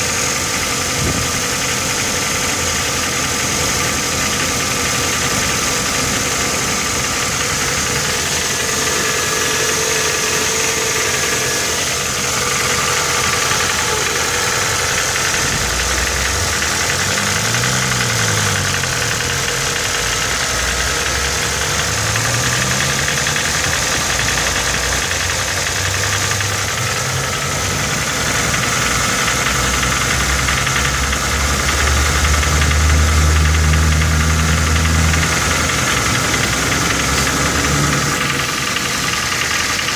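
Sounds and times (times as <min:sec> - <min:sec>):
car engine knocking and revving: 0:00.0 - 0:39.9.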